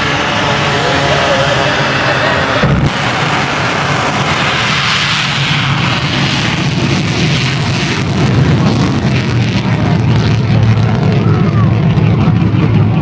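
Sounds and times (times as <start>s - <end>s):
jet engine running: 0.0s - 13.0s.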